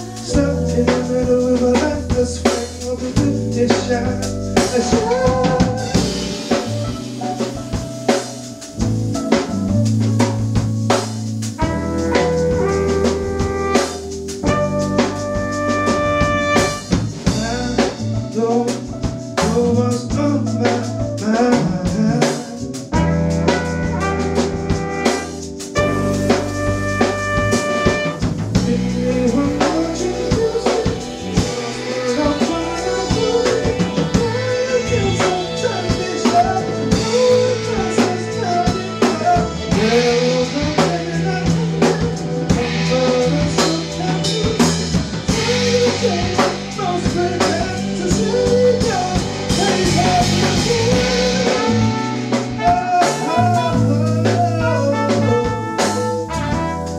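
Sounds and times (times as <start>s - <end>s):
drum kit rimshots: 0.0s - 56.9s
electric keyboard: 0.0s - 56.9s
live band playing soul groove: 0.0s - 56.9s.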